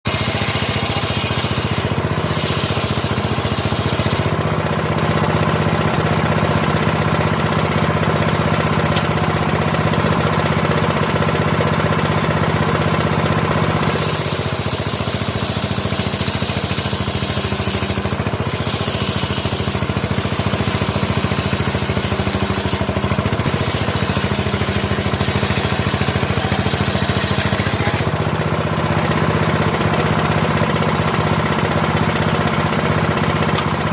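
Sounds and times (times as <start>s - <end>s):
saw hissing through timber: 0.0s - 33.9s
sawmill engine drone: 0.0s - 33.9s.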